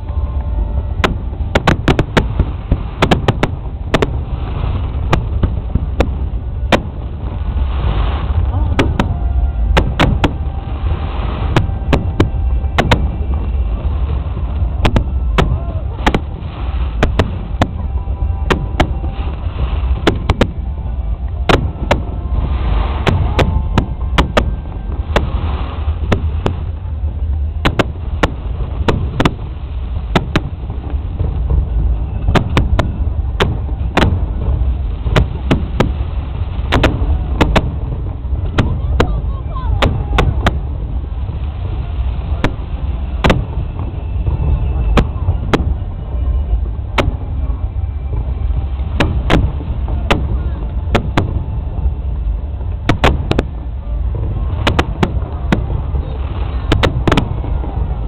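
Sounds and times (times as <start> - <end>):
deep rumble: 0.0 - 58.0
fireworks exploding: 0.0 - 58.0.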